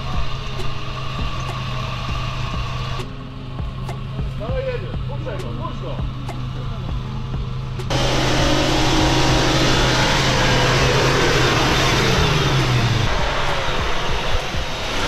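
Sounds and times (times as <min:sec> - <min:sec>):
off-road engine running under load: 0:00.0 - 0:15.0
steady rush of noise: 0:00.0 - 0:15.0.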